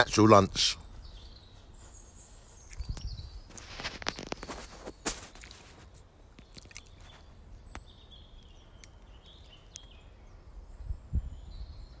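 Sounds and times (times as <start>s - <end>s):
faint woodland birdsong: 0.0s - 12.0s.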